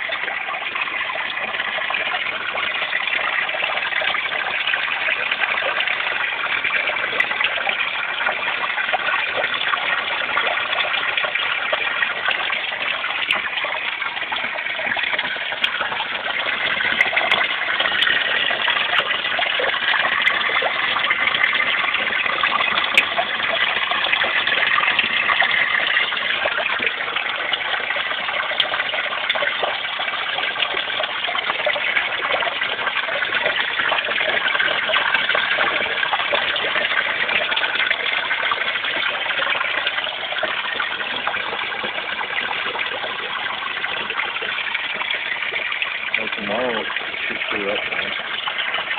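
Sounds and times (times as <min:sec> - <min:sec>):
underwater rushing and bubbling water: 0:00.0 - 0:48.9.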